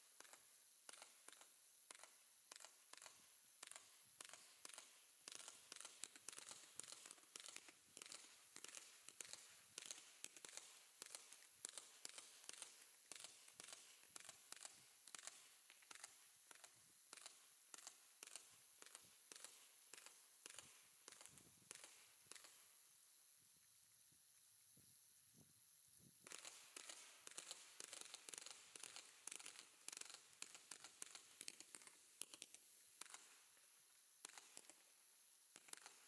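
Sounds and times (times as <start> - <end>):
firework cake crackling: 0.1 - 22.8, 26.1 - 36.0.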